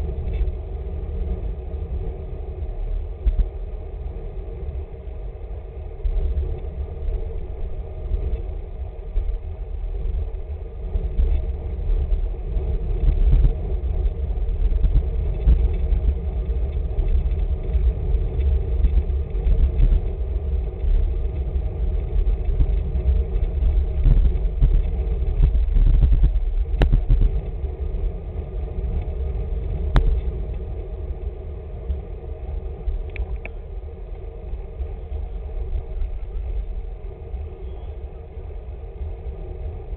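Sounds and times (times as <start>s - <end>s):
bike tyres rumbling on tarmac: 0.0s - 39.9s
wind buffeting microphone: 0.0s - 39.9s.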